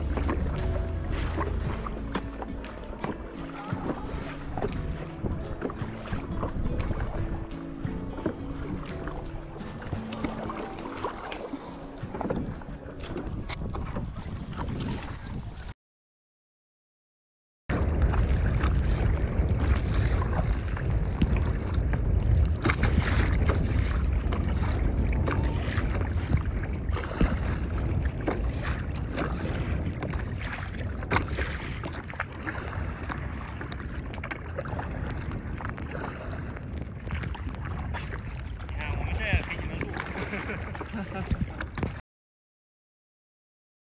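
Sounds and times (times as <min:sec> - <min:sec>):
water splashing against kayaks: 0:00.0 - 0:15.8, 0:17.7 - 0:42.0
wind rumbling on microphone: 0:00.0 - 0:15.8, 0:17.7 - 0:42.0.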